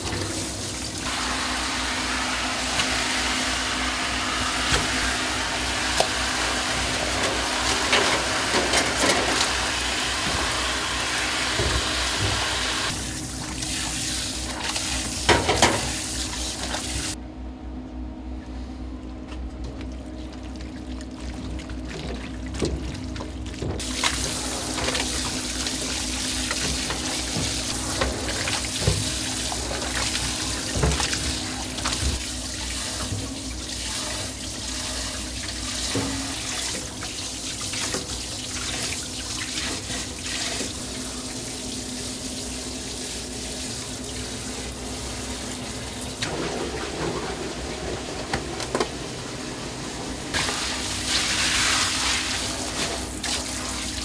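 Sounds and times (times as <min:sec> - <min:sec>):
water running and splashing: 0:04.5 - 0:17.2, 0:19.7 - 0:48.2, 0:50.3 - 0:54.0.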